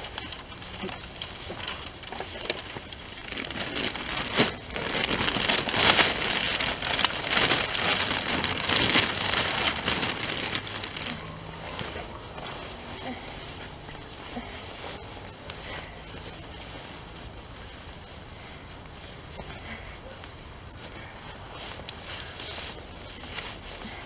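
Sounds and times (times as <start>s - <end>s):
plastic sack crinkling: 0.0s - 19.8s
loose earth pattering: 0.0s - 24.0s.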